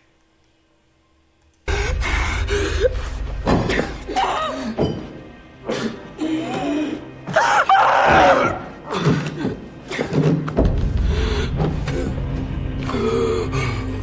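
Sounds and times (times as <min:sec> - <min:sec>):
dramatic music score: 0:01.6 - 0:14.0.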